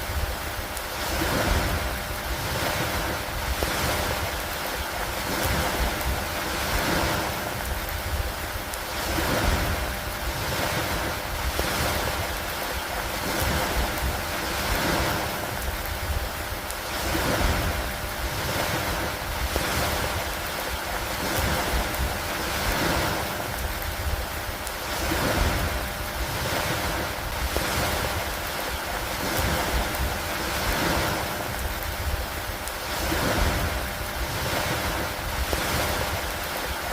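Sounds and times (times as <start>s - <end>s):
constant low rumble: 0.0s - 36.9s
steady rain hissing: 0.0s - 36.9s
wind: 0.0s - 36.9s.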